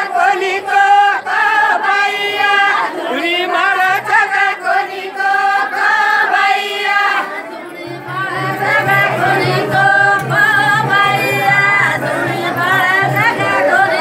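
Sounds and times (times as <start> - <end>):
women singing in unison: 0.0 - 14.0.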